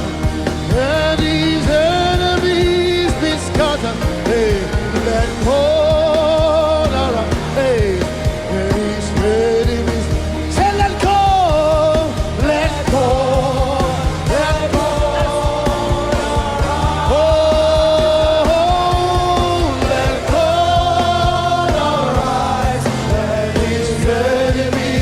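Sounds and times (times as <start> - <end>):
band accompaniment with steady beat: 0.0 - 25.0
person singing with vibrato: 0.0 - 25.0.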